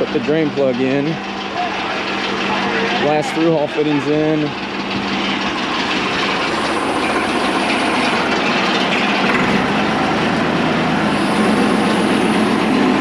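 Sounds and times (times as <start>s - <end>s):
pump engine running: 0.0s - 13.0s.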